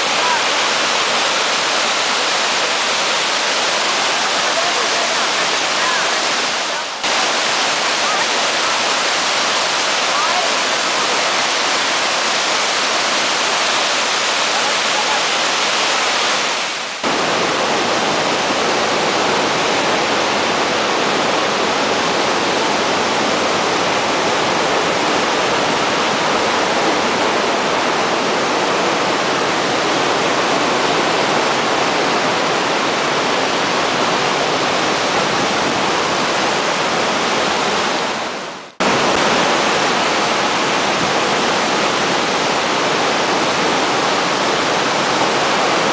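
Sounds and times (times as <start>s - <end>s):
rush of fast-flowing floodwater: 0.0s - 45.9s.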